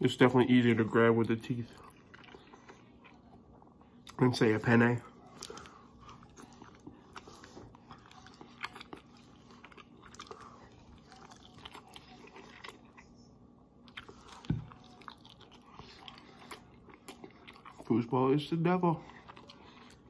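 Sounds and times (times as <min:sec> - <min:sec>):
person chewing: 0:00.6 - 0:18.0, 0:19.0 - 0:20.0.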